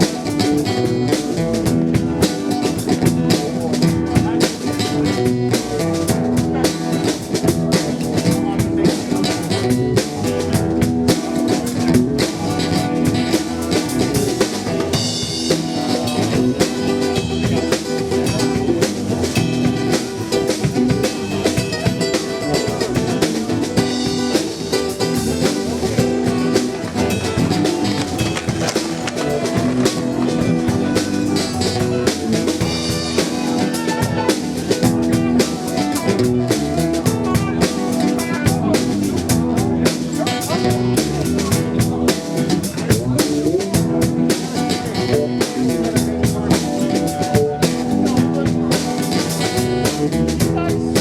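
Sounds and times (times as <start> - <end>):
drum kit beat: 0.0 - 51.0
electric guitar: 0.0 - 51.0.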